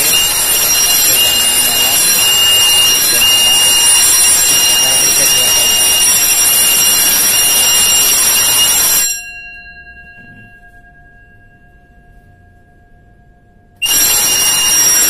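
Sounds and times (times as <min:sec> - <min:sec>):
fire alarm bell ringing: 0:00.0 - 0:15.0.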